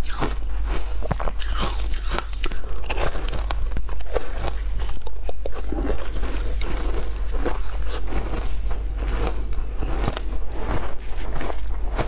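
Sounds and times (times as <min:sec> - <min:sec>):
chewing crunchy ice: 0:00.0 - 0:12.0.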